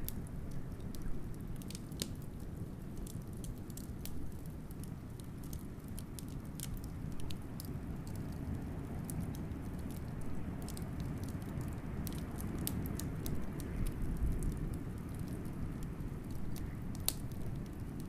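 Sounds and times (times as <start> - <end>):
low rumble of wind: 0.0 - 18.0
wood fire crackling: 0.0 - 18.0.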